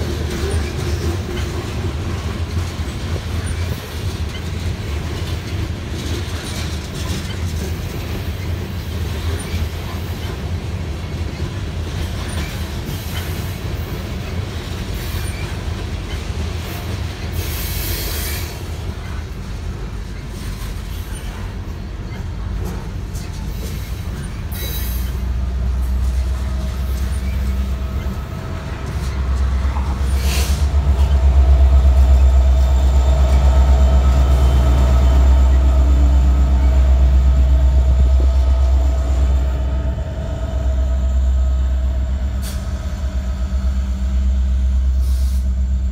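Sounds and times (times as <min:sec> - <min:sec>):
diesel locomotive engine rumble: 0:00.0 - 0:45.9
freight cars rolling over rails: 0:00.0 - 0:45.9.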